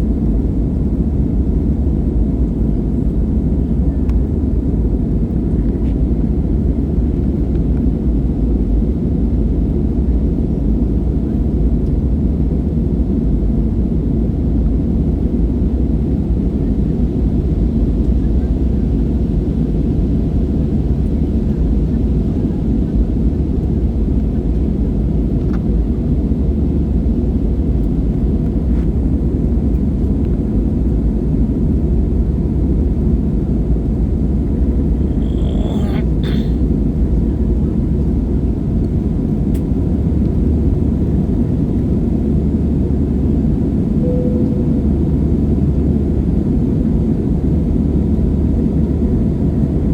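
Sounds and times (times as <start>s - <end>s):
jet engines rumbling in cabin: 0.0s - 49.9s.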